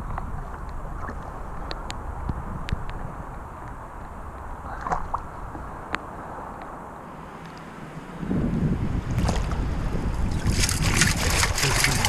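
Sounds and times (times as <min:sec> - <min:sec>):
wind on microphone: 0:00.0 - 0:06.9, 0:07.9 - 0:12.0
shallow sea water: 0:00.0 - 0:12.0.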